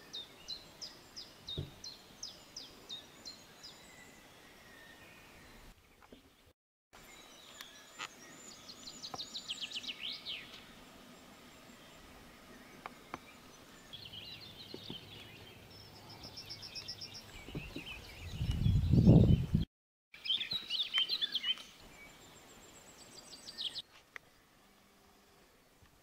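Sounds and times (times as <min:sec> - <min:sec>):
songbirds singing: 0:00.0 - 0:25.4.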